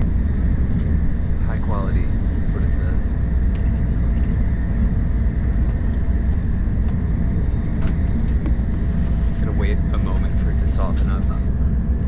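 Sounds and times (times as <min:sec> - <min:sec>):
train low rumble inside cabin: 0:00.0 - 0:12.0.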